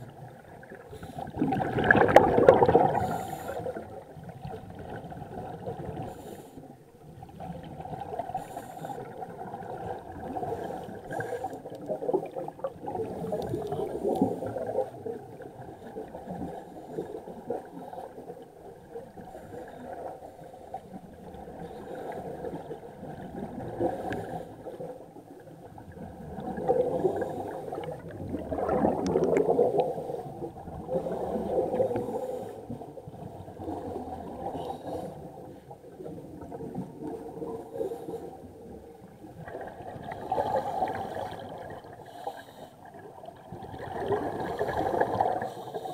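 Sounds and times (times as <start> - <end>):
underwater bubbles gurgling: 0.0 - 45.9.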